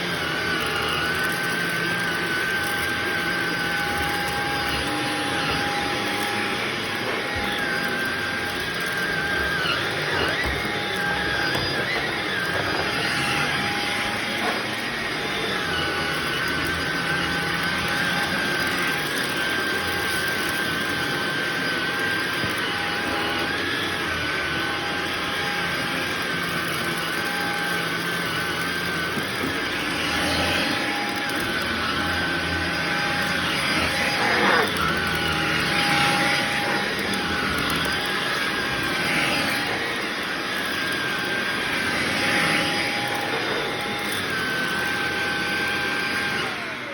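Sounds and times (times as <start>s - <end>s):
vacuum cleaner running on rug: 0.0s - 46.9s.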